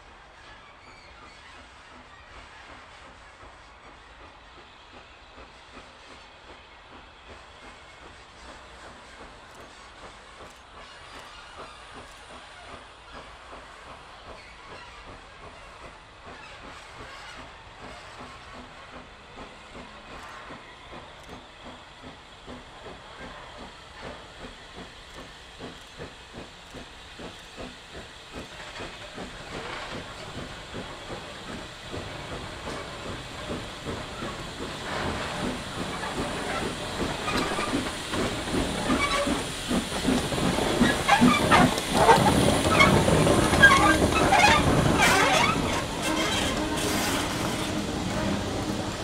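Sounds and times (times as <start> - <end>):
steam hiss: 0.0 - 49.0
steam locomotive chuffing: 0.0 - 49.0
train wheel clicks: 3.4 - 49.0.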